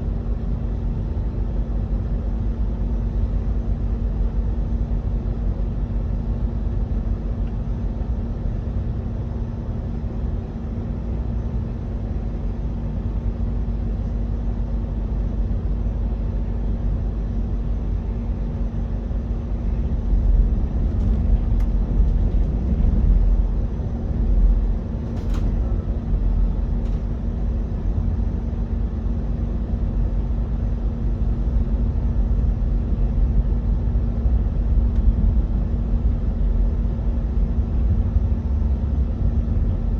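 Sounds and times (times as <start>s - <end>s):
electric train rumbling: 0.0s - 39.9s.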